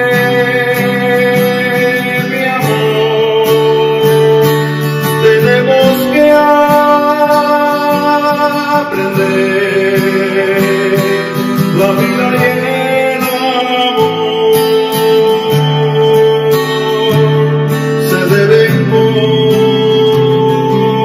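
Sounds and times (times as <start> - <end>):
man singing ballad: 0.0 - 21.0
strummed acoustic guitar: 0.0 - 21.0.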